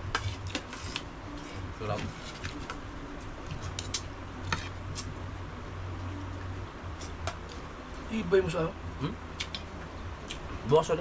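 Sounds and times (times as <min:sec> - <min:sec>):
electric fan humming: 0:00.0 - 0:11.0.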